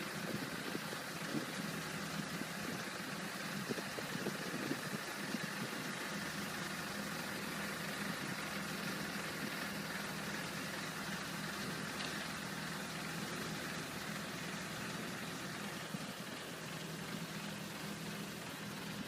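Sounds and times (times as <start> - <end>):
road sweeper engine hum: 0.0 - 19.0.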